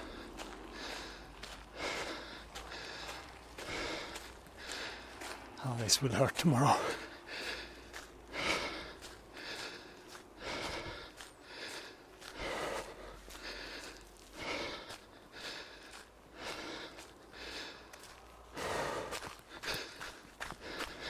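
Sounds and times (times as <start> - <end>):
person breathing hard: 0.0 - 21.0.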